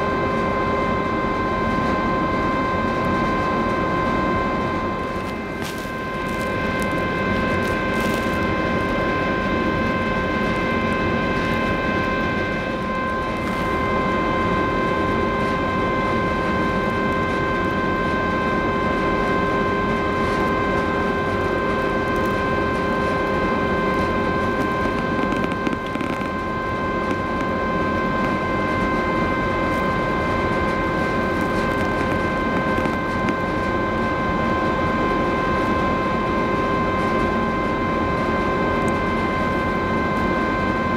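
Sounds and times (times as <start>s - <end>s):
multi-tone machinery whine: 0.0s - 40.9s.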